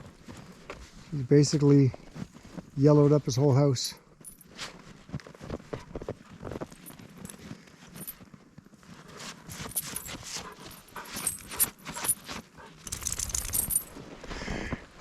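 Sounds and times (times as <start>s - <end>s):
footsteps crunching in snow: 0.0s - 3.5s, 4.2s - 12.9s.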